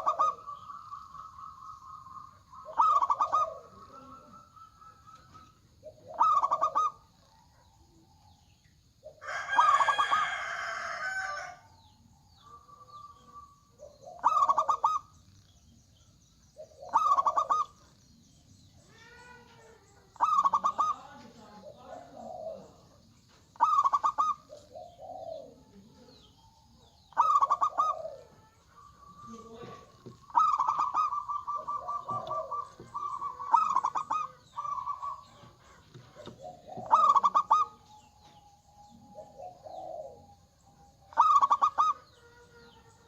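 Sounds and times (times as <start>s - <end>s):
dove cooing: 0.0s - 15.2s, 16.5s - 18.0s, 18.7s - 43.0s.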